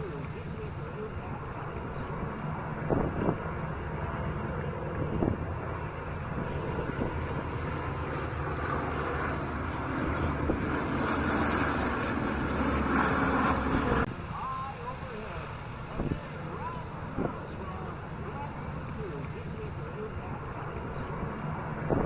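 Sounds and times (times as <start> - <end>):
airplane engine drone: 0.0 - 22.0.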